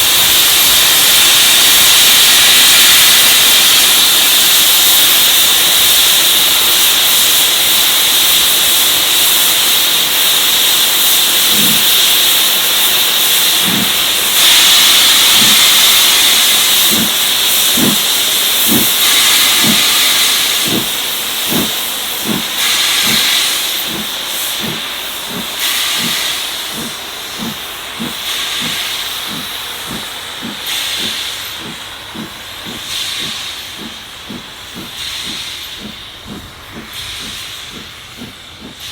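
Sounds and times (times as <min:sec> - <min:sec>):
steam hissing: 0:00.0 - 0:38.9
steam locomotive exhaust chuffs: 0:00.0 - 0:38.9.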